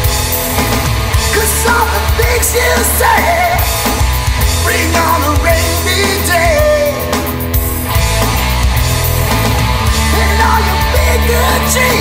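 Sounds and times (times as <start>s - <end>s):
hard rock music: 0.0s - 12.0s.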